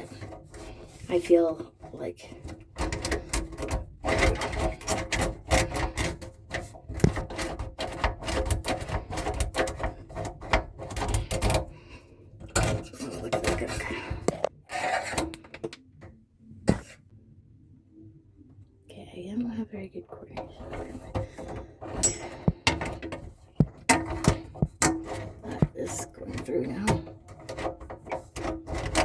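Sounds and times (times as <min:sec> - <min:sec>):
drain snake scraping and rattling: 0:00.0 - 0:15.4, 0:20.5 - 0:29.0.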